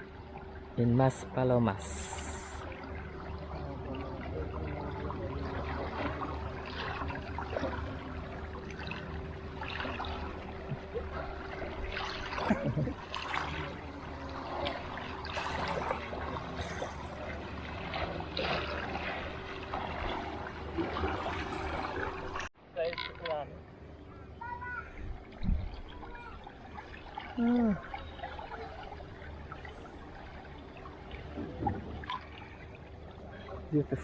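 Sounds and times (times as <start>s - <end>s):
pool water splashing: 0.0s - 23.5s, 24.4s - 34.0s
steady low hum: 0.0s - 34.0s.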